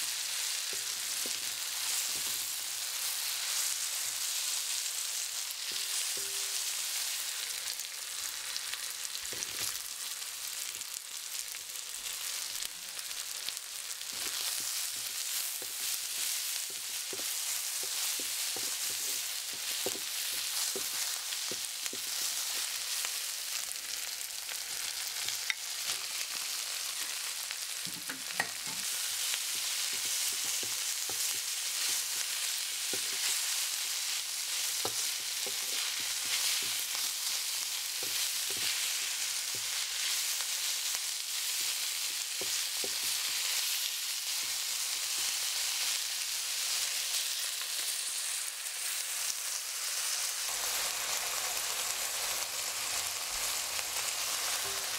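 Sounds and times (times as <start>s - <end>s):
food sizzling in a wok: 0.0s - 54.9s.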